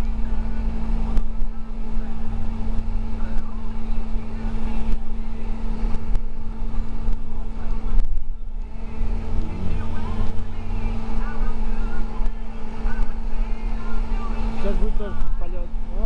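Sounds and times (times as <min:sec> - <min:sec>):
bus engine and road rumble: 0:00.0 - 0:16.0
constant hum: 0:00.0 - 0:16.0.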